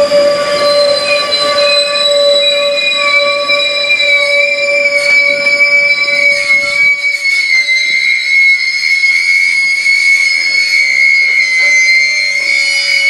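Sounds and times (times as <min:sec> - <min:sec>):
wheel squeal: 0:00.0 - 0:13.0.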